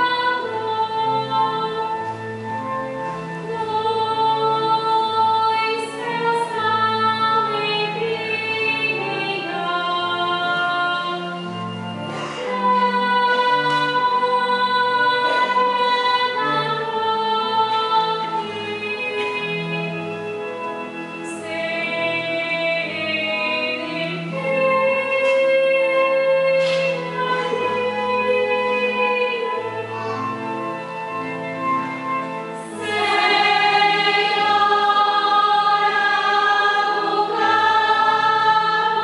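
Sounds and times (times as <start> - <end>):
slow hymn singing: 0.0 - 32.0, 32.6 - 39.0
held accompaniment with bass line: 0.0 - 39.0.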